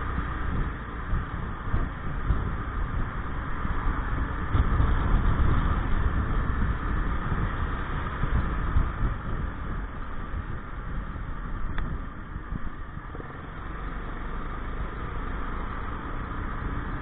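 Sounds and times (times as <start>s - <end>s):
scooter engine running: 0.0s - 17.0s
wind and road rumble: 0.0s - 17.0s.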